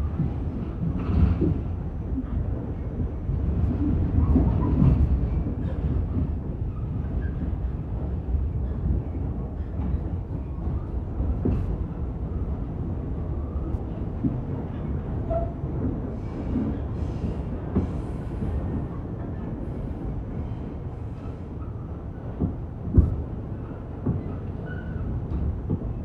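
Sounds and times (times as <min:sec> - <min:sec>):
subway train rumbling: 0:00.0 - 0:26.0.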